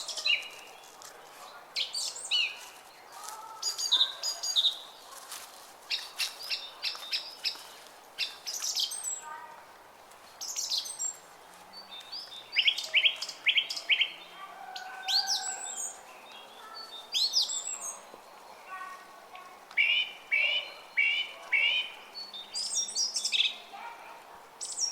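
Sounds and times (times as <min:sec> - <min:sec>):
songbirds chirping and singing: 0:00.0 - 0:09.4, 0:10.4 - 0:18.9, 0:19.7 - 0:24.9.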